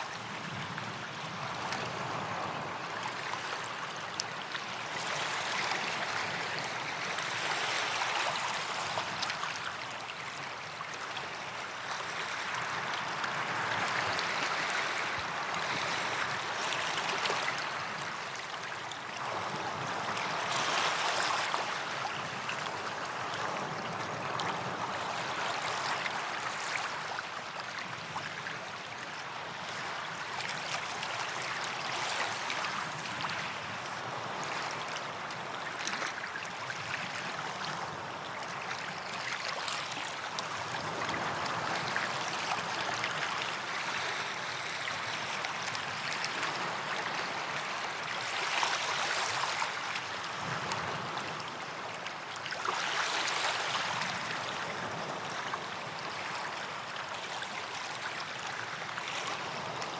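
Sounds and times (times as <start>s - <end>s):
waves washing on a beach: 0.0s - 59.9s.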